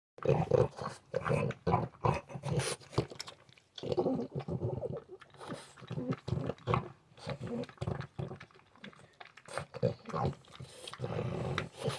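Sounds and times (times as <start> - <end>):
dog grunting snorts: 0.2 - 3.2, 3.8 - 8.4, 9.5 - 11.9.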